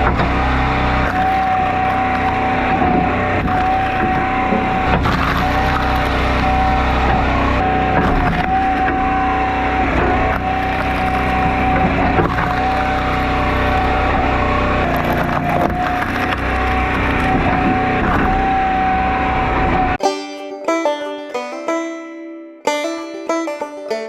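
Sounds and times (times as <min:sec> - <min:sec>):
firewood cracking and splitting: 0:00.0 - 0:20.0
log splitter engine whining: 0:00.0 - 0:20.0.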